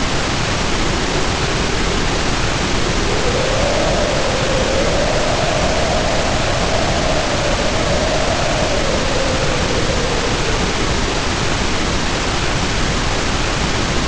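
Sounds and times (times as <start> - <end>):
heavy rain pouring: 0.0 - 14.0
wind howling: 0.0 - 14.0.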